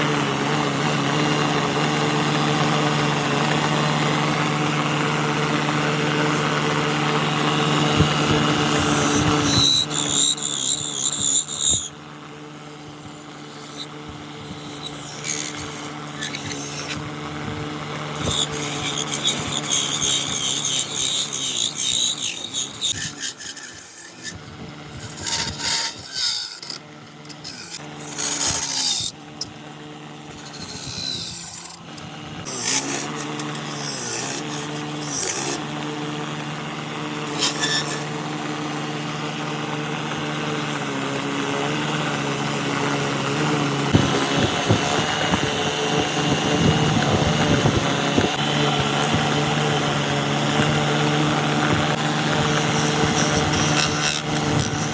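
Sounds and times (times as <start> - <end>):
power tool motor humming: 0.0 - 54.9
scraping and rasping on wood: 1.1 - 54.9.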